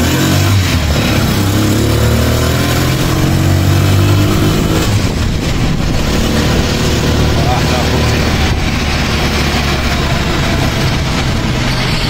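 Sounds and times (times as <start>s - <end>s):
motor scooter engine running: 0.0s - 12.0s.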